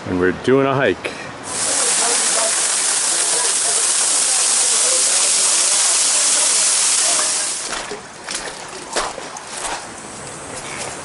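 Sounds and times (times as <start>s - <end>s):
rushing water: 1.4s - 11.0s.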